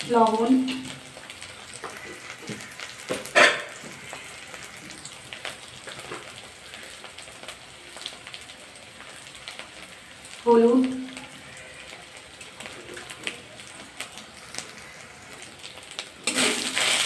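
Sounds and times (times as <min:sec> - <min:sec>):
oil sizzling with crackles: 0:00.0 - 0:17.0.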